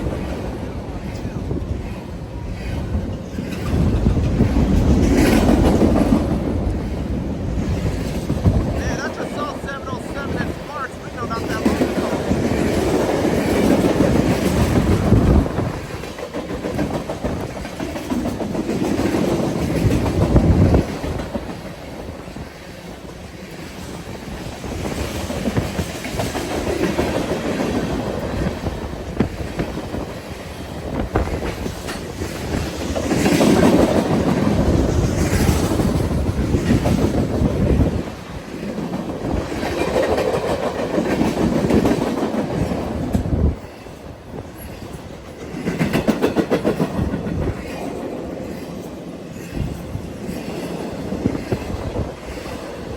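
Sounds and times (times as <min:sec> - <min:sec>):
train wheels clacking over rail joints: 0:00.0 - 0:09.5, 0:11.6 - 0:52.9
freight train rumble: 0:00.0 - 0:52.9.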